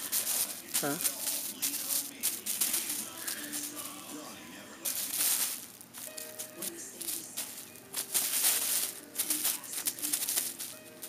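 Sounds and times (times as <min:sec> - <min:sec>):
bubble wrap crinkling: 0:00.0 - 0:11.0
faint background music: 0:00.0 - 0:11.0.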